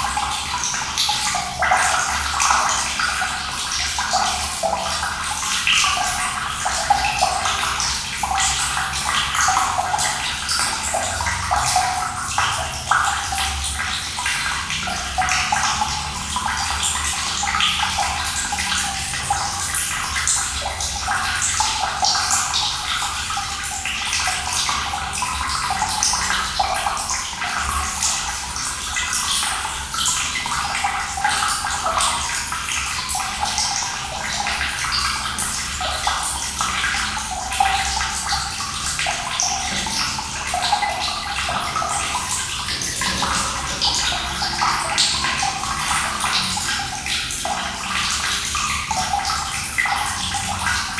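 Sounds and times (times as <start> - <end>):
running water splashing: 0.0 - 50.9.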